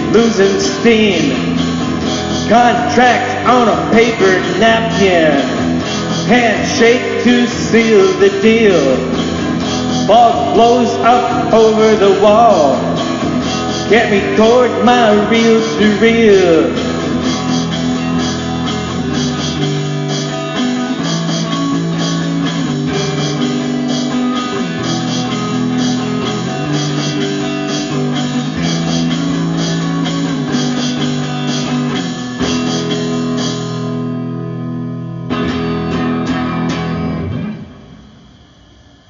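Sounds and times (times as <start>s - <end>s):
guitar-led band playing: 0.0s - 38.1s.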